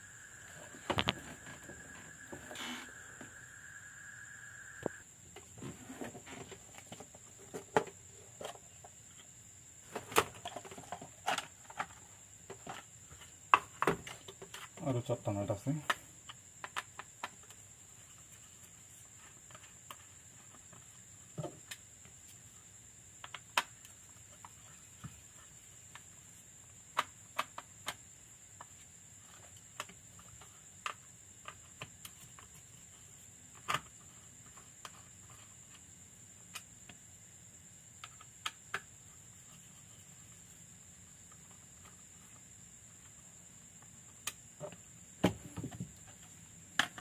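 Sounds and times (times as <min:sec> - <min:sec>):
faint high-pitched whine: 0:00.0 - 0:47.0.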